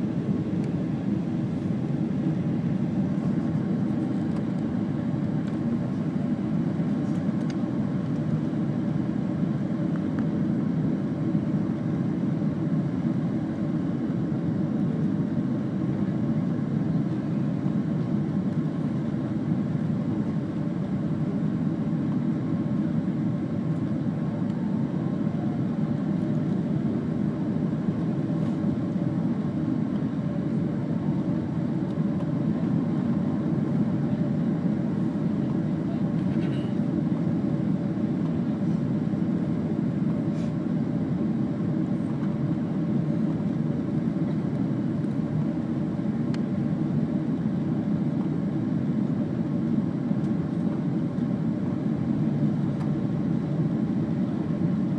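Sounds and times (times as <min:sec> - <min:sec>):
jet engine and airflow rumble: 0:00.0 - 0:54.9.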